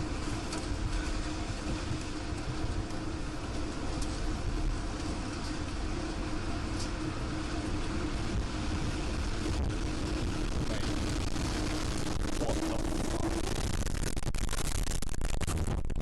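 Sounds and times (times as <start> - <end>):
low hum: 0.0 - 16.0
wind roaring on microphone: 0.0 - 16.0.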